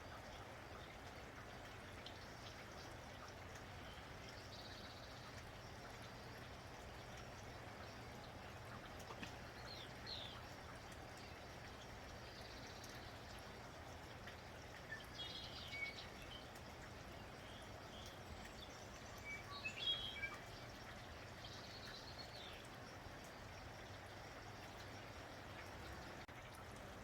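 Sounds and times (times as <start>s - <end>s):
light rain falling: 0.0s - 27.0s
small birds chirping: 1.7s - 26.3s.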